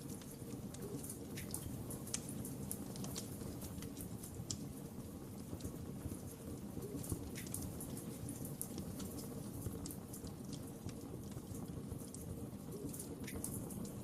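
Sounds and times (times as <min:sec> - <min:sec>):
small pops and snaps: 0:00.0 - 0:06.4, 0:07.0 - 0:14.0
low rumble of flames: 0:00.0 - 0:14.0
wood fire crackling: 0:00.0 - 0:14.0.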